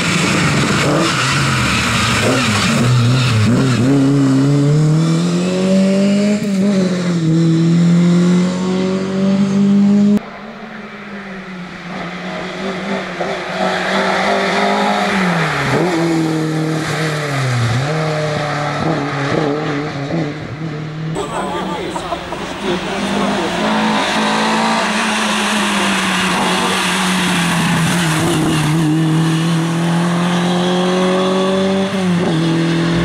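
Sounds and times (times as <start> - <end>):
rally car engine at high revs: 0.0 - 10.2, 11.2 - 33.0.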